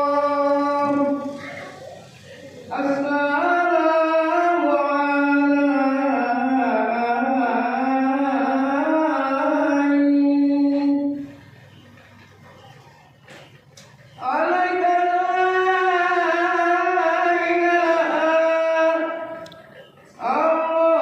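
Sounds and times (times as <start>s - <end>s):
man singing a melismatic chant: 0.0s - 1.5s, 2.6s - 11.4s, 14.2s - 21.0s.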